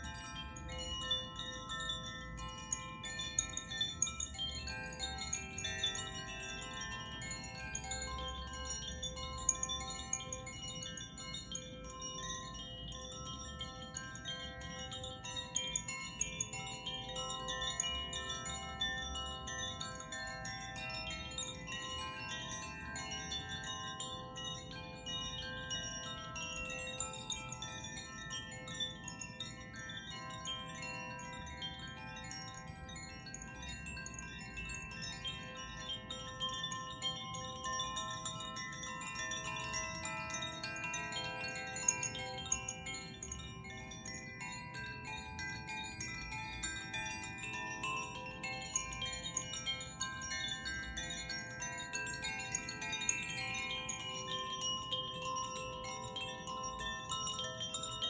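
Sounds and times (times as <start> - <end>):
wind chimes ringing: 0.0 - 58.0.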